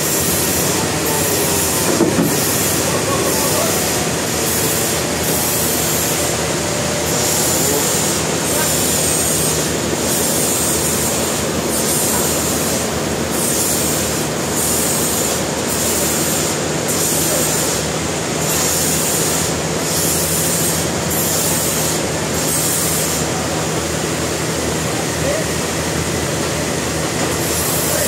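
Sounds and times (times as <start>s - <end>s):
sawmill saw cutting log: 0.0s - 28.0s.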